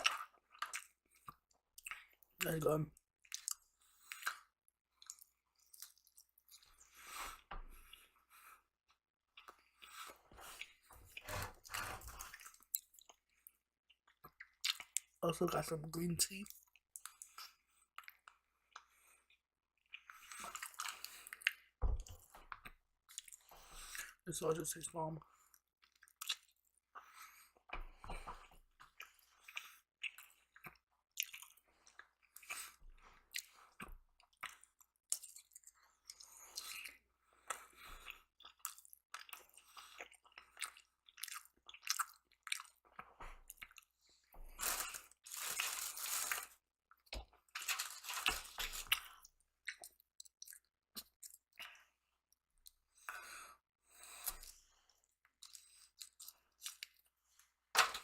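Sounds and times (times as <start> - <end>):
person chewing crunchy food: 0.0 - 2.4, 3.2 - 8.5, 9.3 - 15.2, 16.4 - 24.2, 25.4 - 53.3, 53.9 - 58.0.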